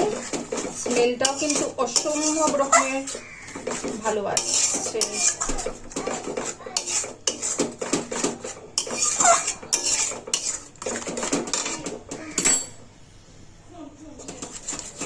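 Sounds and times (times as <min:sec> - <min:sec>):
spoon scraping a pot: 0:00.0 - 0:12.8, 0:14.2 - 0:15.0.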